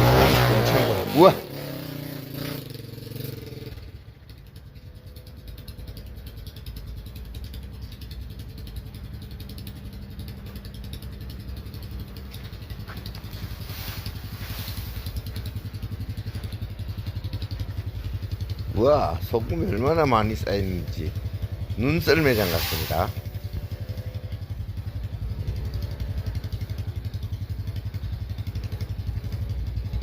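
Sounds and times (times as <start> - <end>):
small motorcycle engine running: 0.0 - 30.0.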